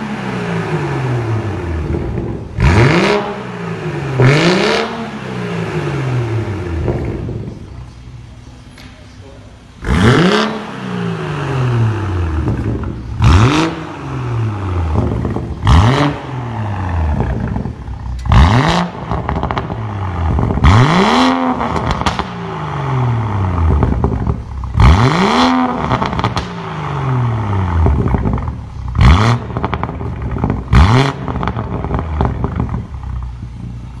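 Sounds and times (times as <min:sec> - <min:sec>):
car engine revving: 0:00.0 - 0:08.5, 0:09.6 - 0:34.0.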